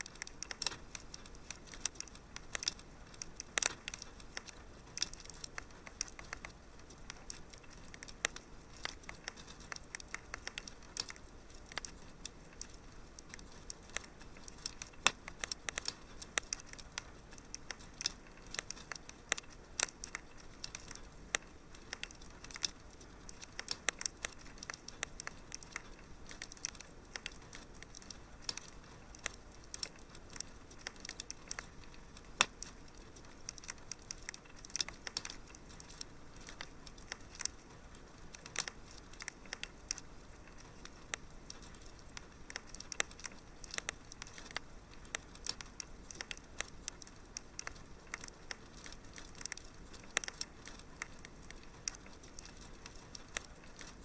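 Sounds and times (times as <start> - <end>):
fireplace crackling: 0.0 - 54.0.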